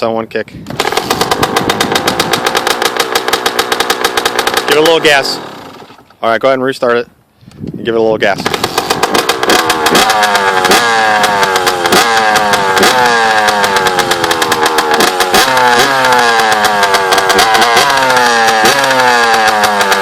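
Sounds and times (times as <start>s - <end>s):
two-stroke engine revving: 0.7s - 6.1s, 8.4s - 20.0s.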